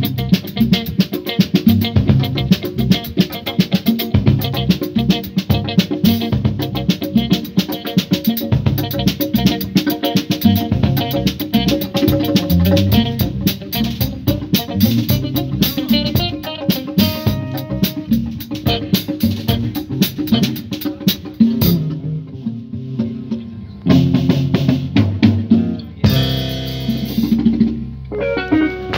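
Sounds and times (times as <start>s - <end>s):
congas and drum kit: 0.0s - 28.9s
electric bass guitar: 0.0s - 28.9s
live afrobeat band: 0.0s - 28.9s.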